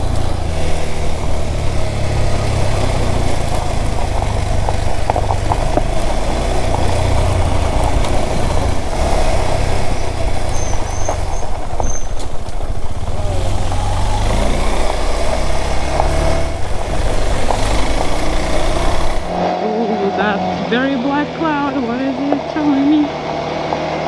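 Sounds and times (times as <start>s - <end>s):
motorcycle engine rumbling: 0.0s - 24.0s.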